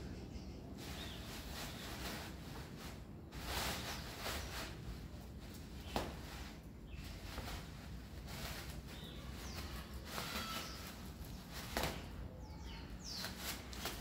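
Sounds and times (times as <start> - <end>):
plastic bag crinkling: 0.8 - 12.2.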